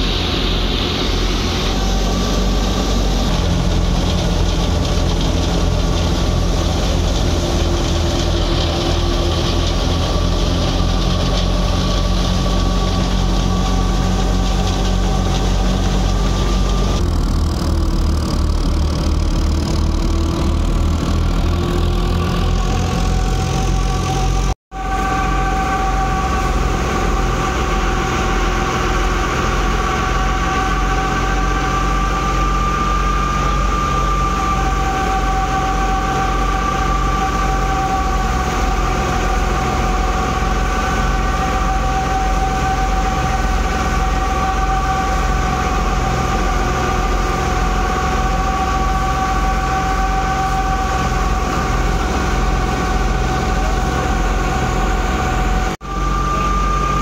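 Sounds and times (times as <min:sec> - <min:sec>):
wheat thresher running: 0:00.0 - 0:57.0.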